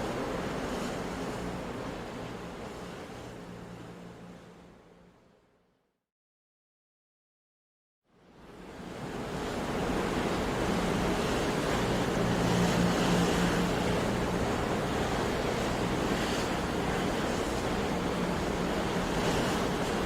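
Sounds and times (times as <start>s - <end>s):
sea waves surging: 0.0s - 5.0s, 8.4s - 20.0s
wind: 0.0s - 5.9s, 8.0s - 20.0s.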